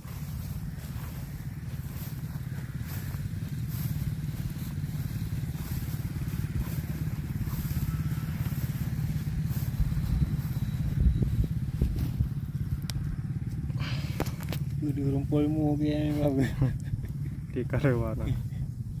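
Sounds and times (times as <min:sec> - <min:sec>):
small engine puttering: 0:00.0 - 0:19.0.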